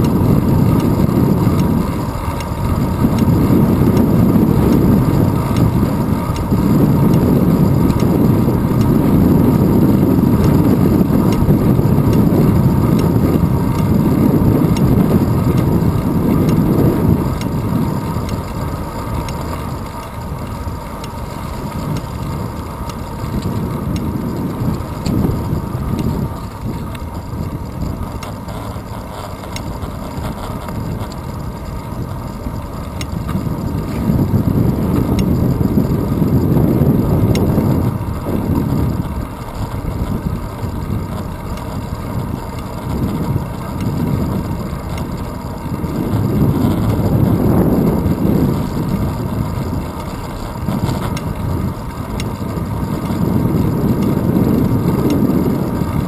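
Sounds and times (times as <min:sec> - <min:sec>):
bicycle tyres rolling on asphalt: 0:00.0 - 0:56.0
wind buffeting camera: 0:00.0 - 0:56.0.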